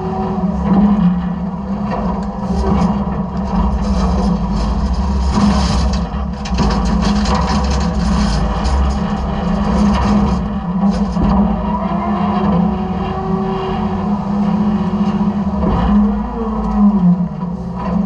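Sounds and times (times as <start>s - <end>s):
garbage truck engine and hydraulics: 0.0s - 18.0s.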